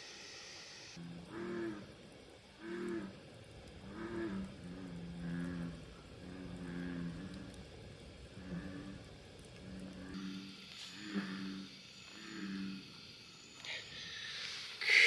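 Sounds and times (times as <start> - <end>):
frogs croaking: 0.9 - 15.0.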